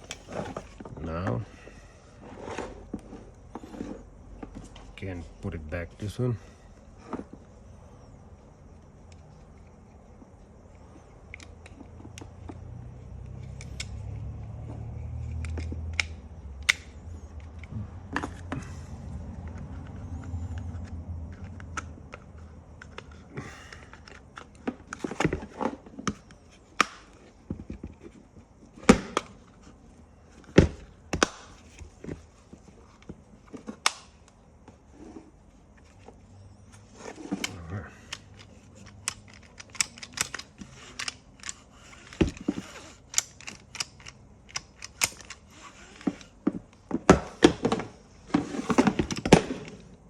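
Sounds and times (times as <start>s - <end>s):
seatbelt parts clicking and knocking: 0.0s - 1.4s, 8.7s - 34.7s, 35.7s - 50.0s.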